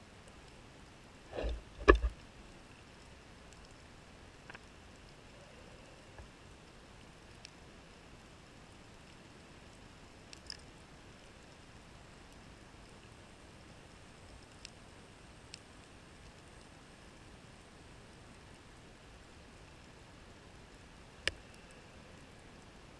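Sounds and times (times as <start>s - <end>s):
soft underwater hiss: 0.2s - 22.9s.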